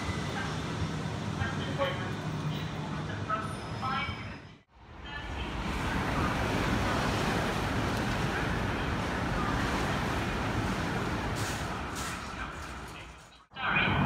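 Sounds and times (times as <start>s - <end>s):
high-speed train passing: 0.0s - 14.0s.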